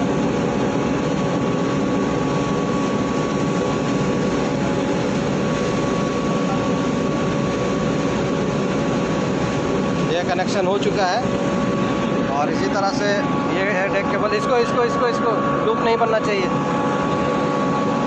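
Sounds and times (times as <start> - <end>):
faint steady whine: 0.0 - 18.0
ship engines droning: 0.0 - 18.0.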